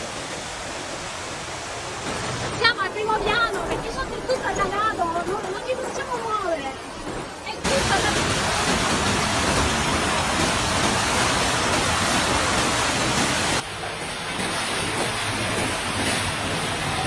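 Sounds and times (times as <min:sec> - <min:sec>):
rushing flood water: 0:00.0 - 0:17.0.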